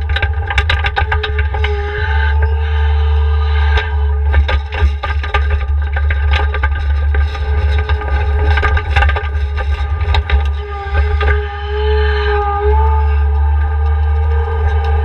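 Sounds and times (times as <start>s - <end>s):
sharp knocks and rattles: 0.0s - 15.0s
skid steer running: 0.0s - 15.0s.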